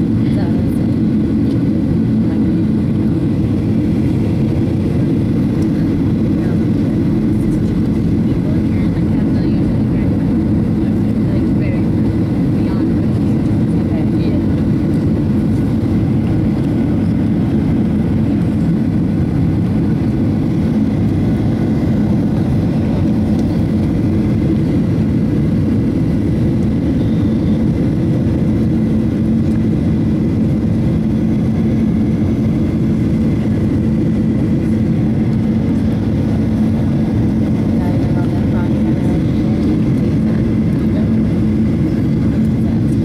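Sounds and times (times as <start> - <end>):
jet engine and airflow rumble: 0.0 - 43.0
low hum: 0.0 - 43.0.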